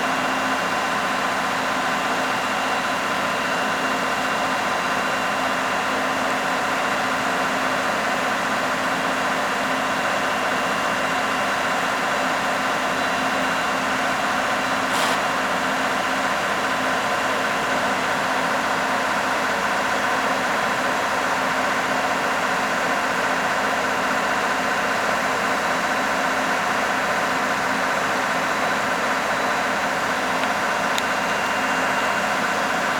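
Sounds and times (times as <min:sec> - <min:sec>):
truck engine running steadily: 0:00.0 - 0:32.9.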